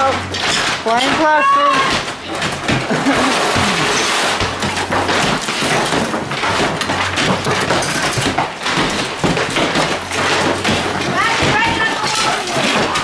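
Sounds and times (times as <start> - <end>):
hammers knocking on plaster: 0.0 - 13.0
plaster debris crumbling and falling: 0.0 - 13.0.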